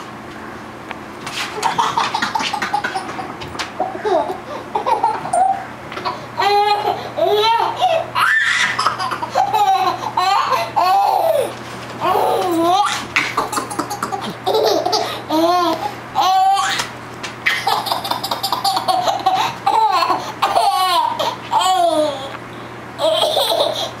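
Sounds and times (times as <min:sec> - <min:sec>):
baby laughing: 0:01.6 - 0:22.3, 0:23.0 - 0:24.0.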